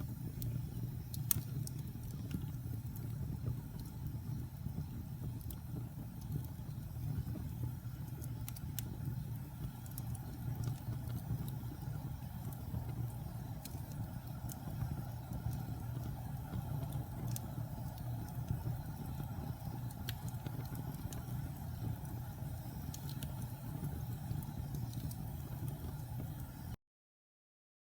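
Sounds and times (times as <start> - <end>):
logs crackling and popping: 0.0 - 26.6
roar of fire flames: 0.0 - 26.7.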